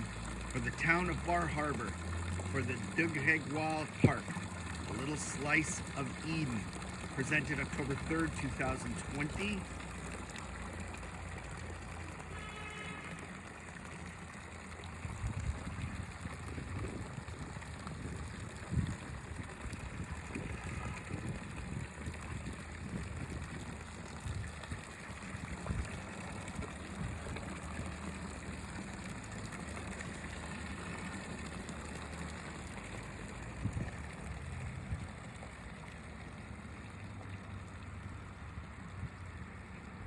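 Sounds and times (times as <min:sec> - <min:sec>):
small waterfall splashing: 0:00.0 - 0:40.0.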